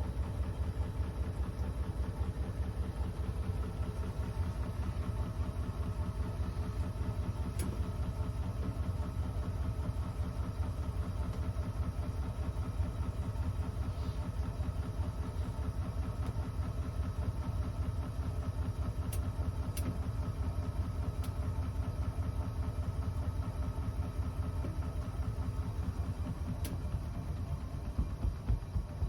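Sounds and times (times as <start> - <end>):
washing machine rumbling: 0.0 - 29.0.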